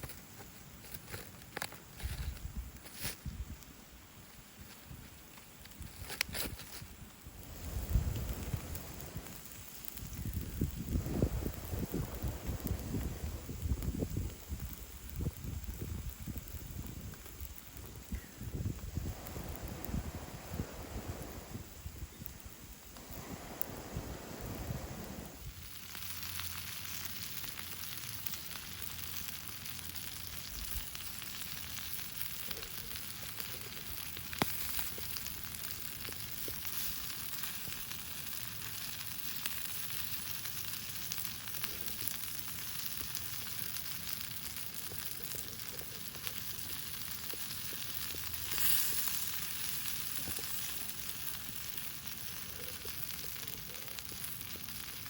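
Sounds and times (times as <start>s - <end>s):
meat sizzling over campfire: 0.0s - 55.0s.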